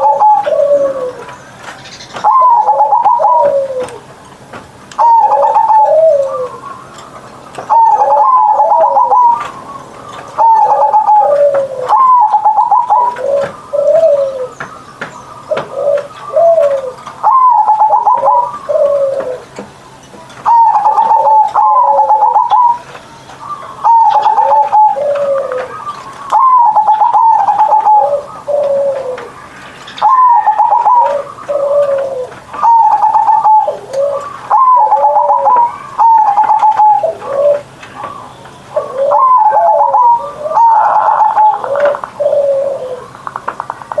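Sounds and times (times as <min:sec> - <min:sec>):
dove cooing song: 0:00.0 - 0:44.0.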